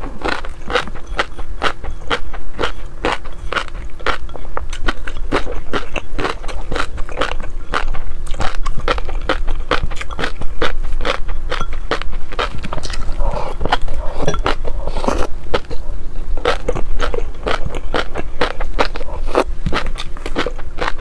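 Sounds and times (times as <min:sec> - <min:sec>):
low steady hum: 0:00.0 - 0:21.0
person chewing crunchy food: 0:00.0 - 0:21.0.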